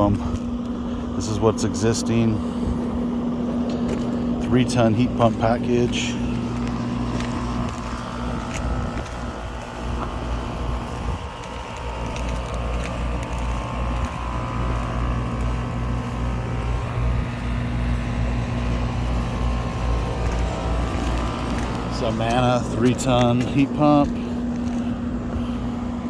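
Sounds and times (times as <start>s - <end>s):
heat pump humming: 0.0s - 26.0s.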